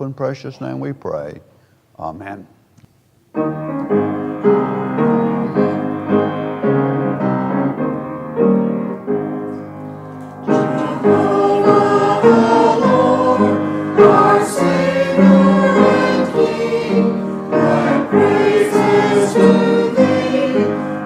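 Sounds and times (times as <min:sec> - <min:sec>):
piano playing slow chords: 0:03.3 - 0:21.0.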